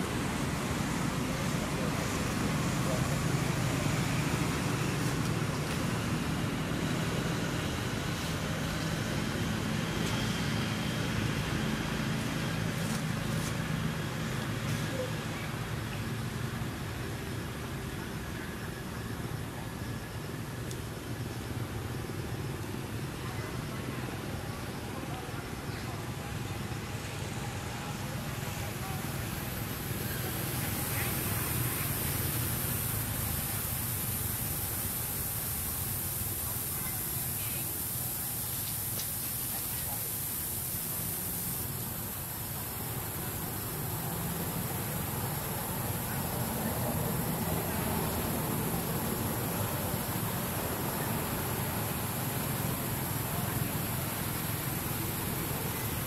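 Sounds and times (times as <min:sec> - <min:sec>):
even hiss: 0:00.0 - 0:56.0
traffic engine drone: 0:00.0 - 0:56.0.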